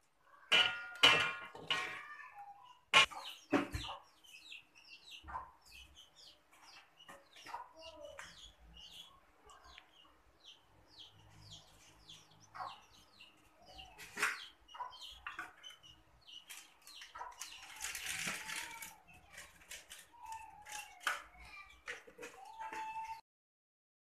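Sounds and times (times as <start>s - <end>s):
small birds chirping: 0.0s - 23.2s.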